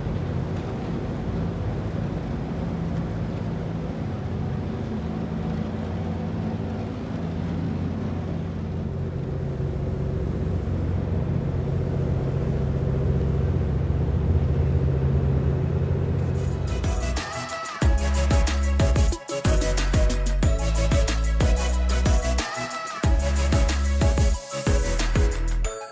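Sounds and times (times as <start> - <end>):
boat engines droning: 0.0 - 25.7.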